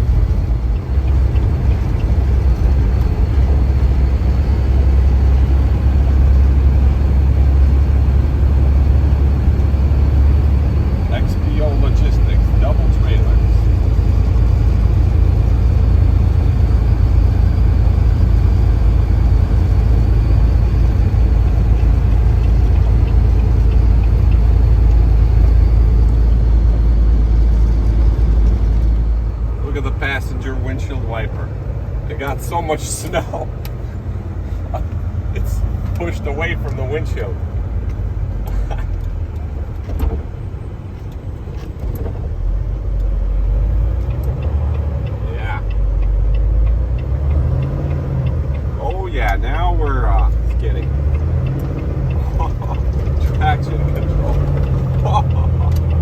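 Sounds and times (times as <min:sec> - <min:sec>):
road noise: 0:00.0 - 0:56.0
truck engine rumble: 0:00.0 - 0:56.0.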